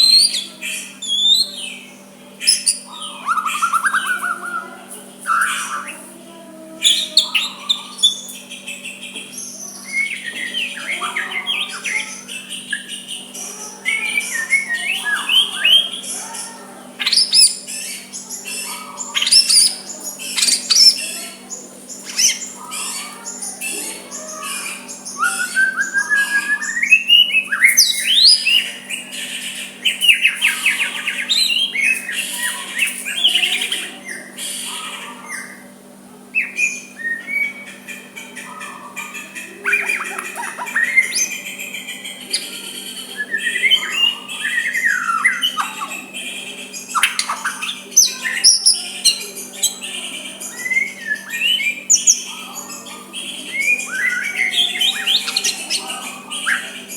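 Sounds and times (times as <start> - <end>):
bird singing whistles and trills: 0.0 - 6.1, 6.8 - 35.7, 36.4 - 56.9.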